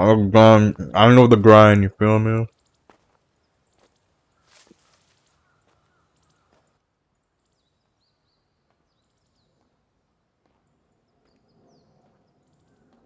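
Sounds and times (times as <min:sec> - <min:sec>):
faint bird chirps: 0:02.4 - 0:13.0.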